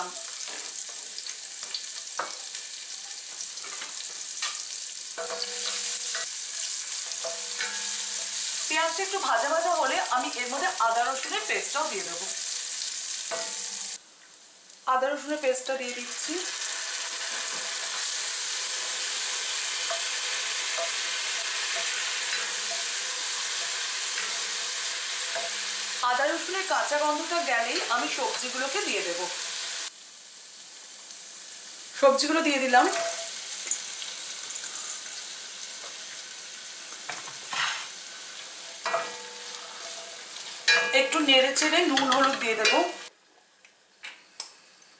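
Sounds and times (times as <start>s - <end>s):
onion sizzling in hot oil: 0.0s - 43.1s.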